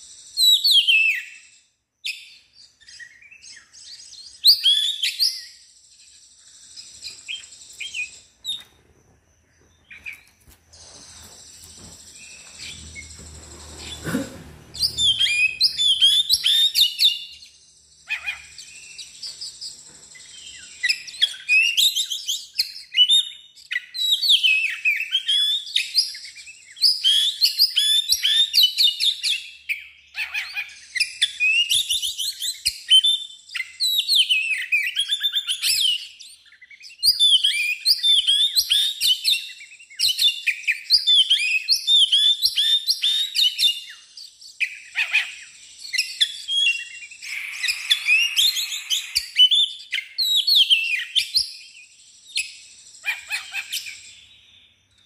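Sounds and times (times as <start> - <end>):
bird song whistles and trills: 0.0 - 55.0.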